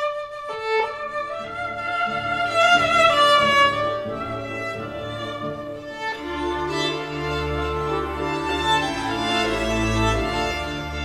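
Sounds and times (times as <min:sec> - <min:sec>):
solo violin melody: 0:00.0 - 0:11.0
low sustained string notes: 0:00.2 - 0:11.0.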